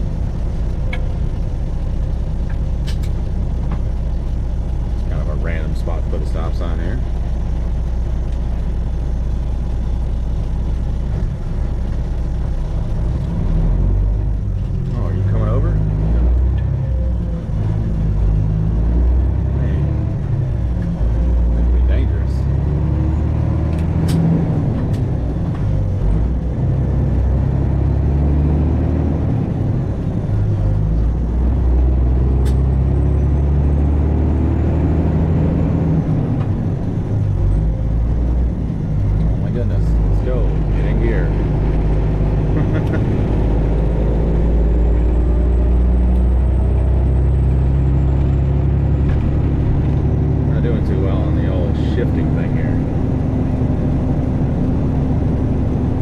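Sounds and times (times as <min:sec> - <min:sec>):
truck diesel engine rumbling: 0:00.0 - 0:56.0.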